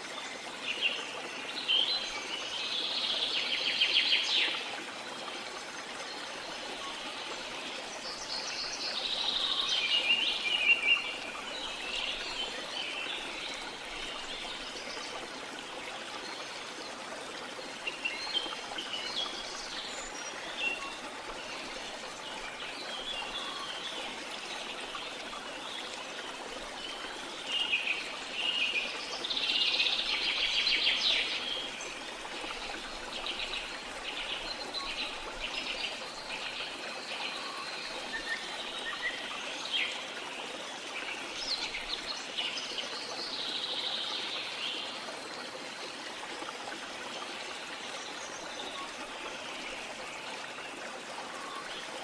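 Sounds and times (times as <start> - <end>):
stream flowing: 0.0 - 52.0.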